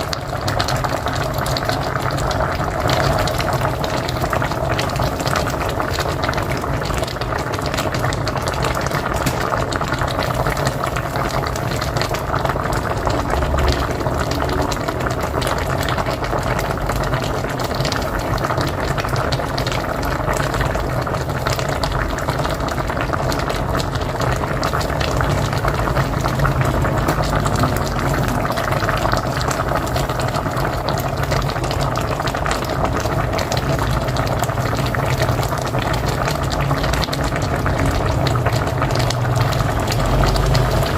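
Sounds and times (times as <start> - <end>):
pot boiling with dense bubbling: 0.0 - 40.9.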